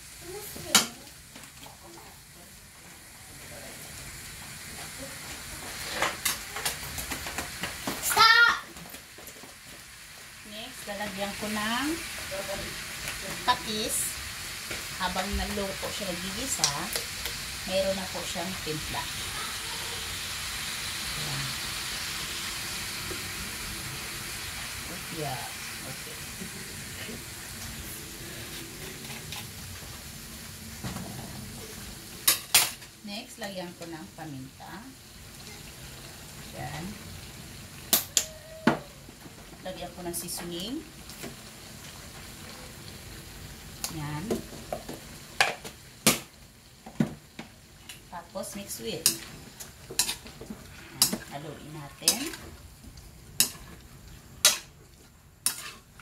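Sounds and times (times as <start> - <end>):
chicken sizzling in oil: 0.0 - 56.0
sharp crackles of frying: 0.0 - 56.0.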